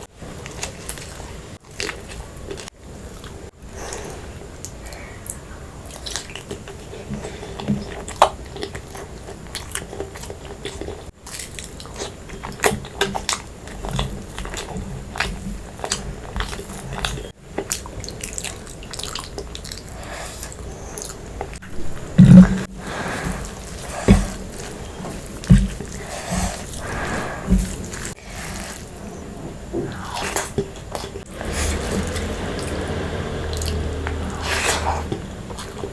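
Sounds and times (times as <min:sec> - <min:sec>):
person chewing food: 0:00.4 - 0:35.9.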